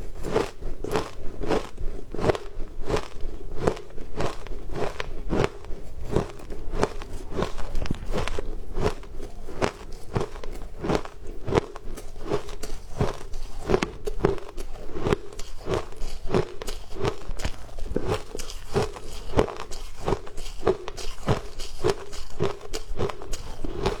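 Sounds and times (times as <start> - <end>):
shaved ice being chewed: 0.0 - 24.0.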